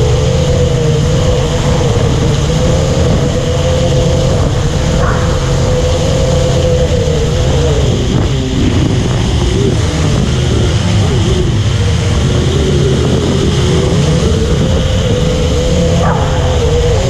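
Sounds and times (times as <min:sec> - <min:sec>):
drone rotors humming: 0:00.0 - 0:17.0
wind rumble on microphone: 0:00.0 - 0:17.0.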